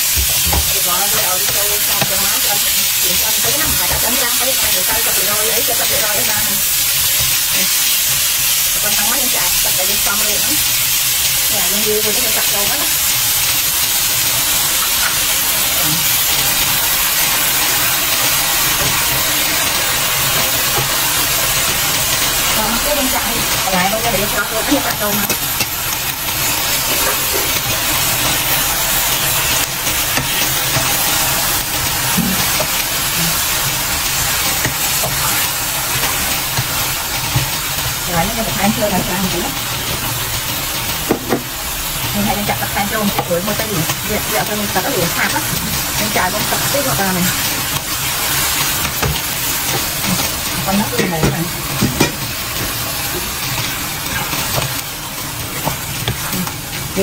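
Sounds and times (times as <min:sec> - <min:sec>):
beef sizzling in a wok: 0:00.0 - 0:57.0.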